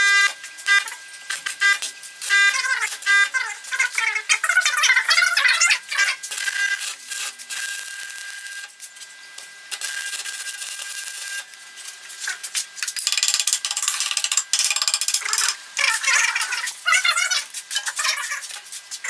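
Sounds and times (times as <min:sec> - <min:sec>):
arc welding crackling sizzle: 0:00.0 - 0:19.0.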